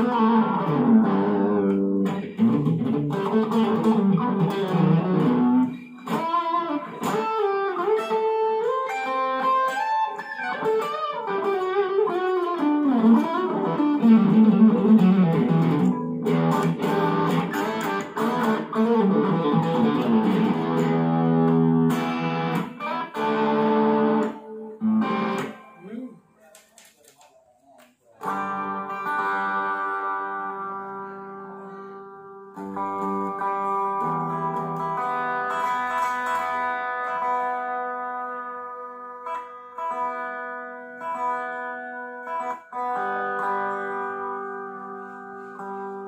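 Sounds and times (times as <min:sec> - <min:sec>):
electric guitar lead lines: 0:00.0 - 0:26.2, 0:28.2 - 0:46.0.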